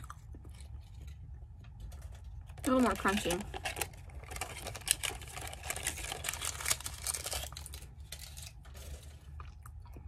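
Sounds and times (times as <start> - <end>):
chewing crunchy chocolate: 0.0 - 10.0.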